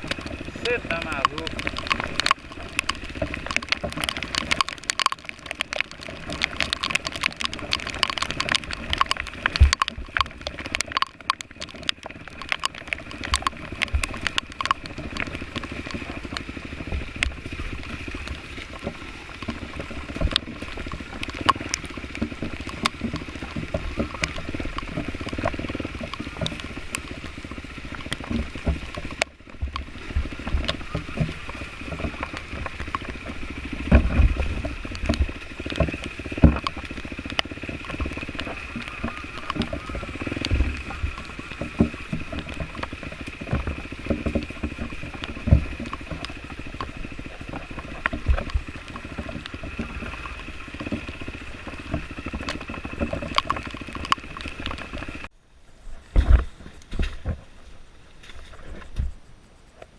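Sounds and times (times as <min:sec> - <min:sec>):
dirt bike engine running: 0:00.0 - 0:55.4
rain tapping on camera: 0:00.0 - 0:55.4.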